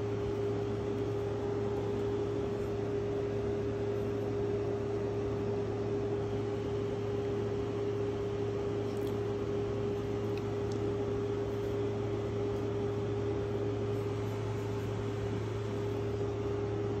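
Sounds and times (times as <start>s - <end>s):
window air conditioner humming: 0.0s - 17.0s.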